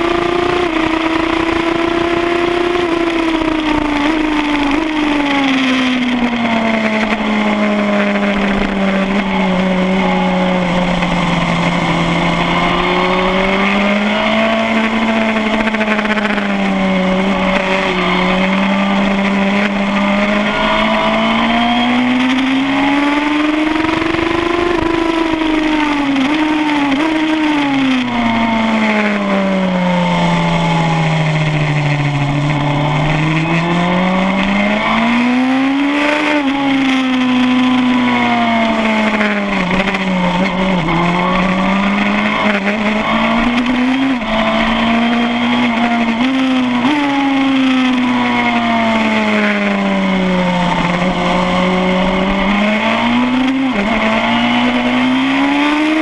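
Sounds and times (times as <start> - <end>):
motorcycle engine at racing speed: 0.0 - 56.0.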